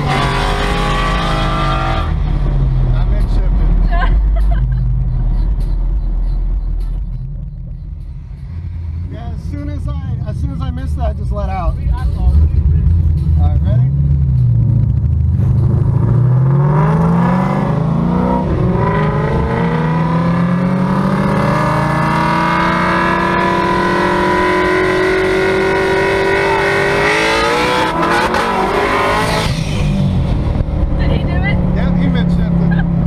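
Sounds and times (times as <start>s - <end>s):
car engine accelerating hard: 0.0s - 6.8s, 7.4s - 33.0s.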